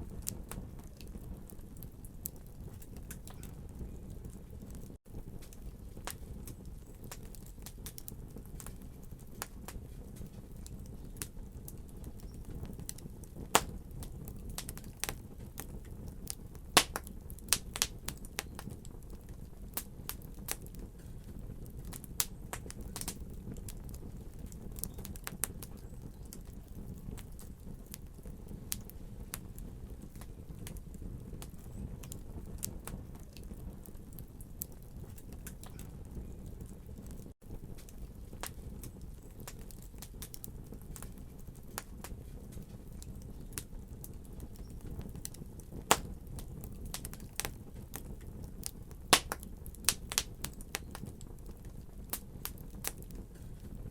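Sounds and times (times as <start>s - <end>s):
fire crackling and popping: 0.0s - 53.9s
low fire rumble: 0.0s - 53.9s.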